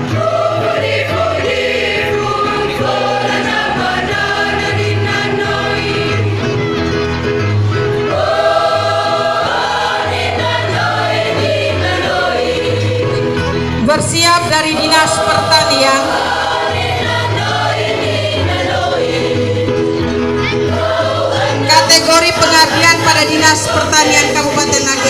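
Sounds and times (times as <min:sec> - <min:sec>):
choir singing in parts: 0:00.0 - 0:06.6, 0:08.0 - 0:25.0.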